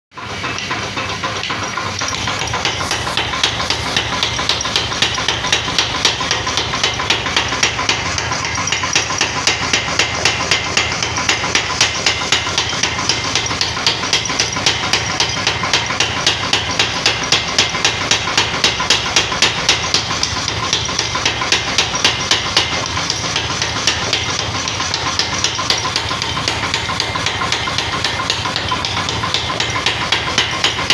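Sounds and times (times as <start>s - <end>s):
machine running noise: 0.2s - 30.9s
power hammer blows on hot metal: 0.2s - 30.9s.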